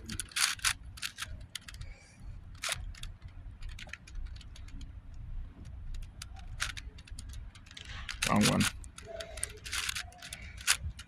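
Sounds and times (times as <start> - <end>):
puzzle cube layers clicking: 0.0 - 11.0.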